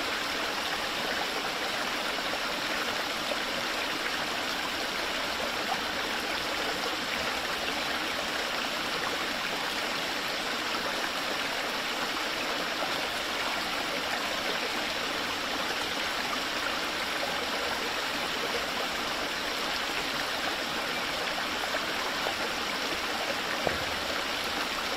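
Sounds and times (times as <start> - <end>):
running water: 0.0 - 24.9.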